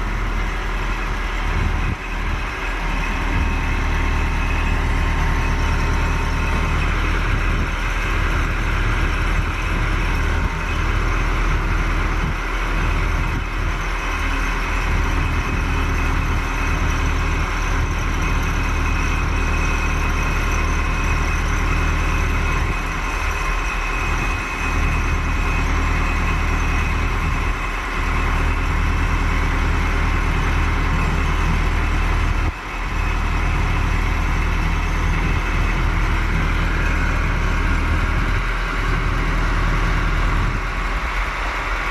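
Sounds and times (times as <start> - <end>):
diesel tractor engine idling: 0.0 - 41.9.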